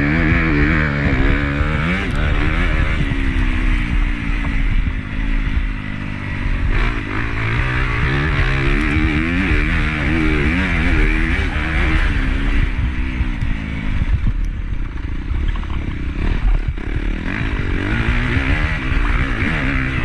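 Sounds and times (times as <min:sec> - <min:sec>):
motorbike engine revving: 0:00.0 - 0:20.0
motorbike rattling and knocking: 0:00.1 - 0:20.0.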